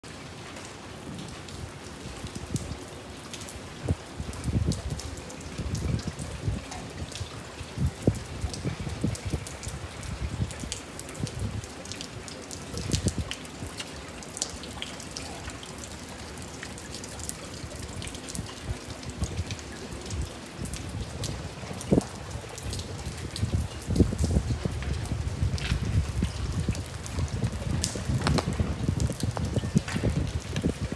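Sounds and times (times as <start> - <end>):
rain pattering: 0.0 - 30.9
water dripping down metal rain chain: 0.0 - 30.9.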